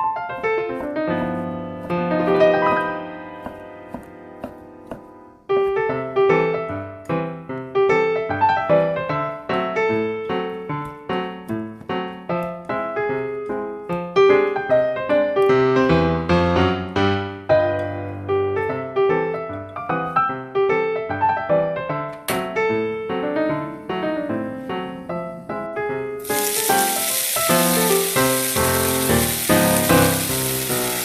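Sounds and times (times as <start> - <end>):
light piano melody: 0.0 - 31.0.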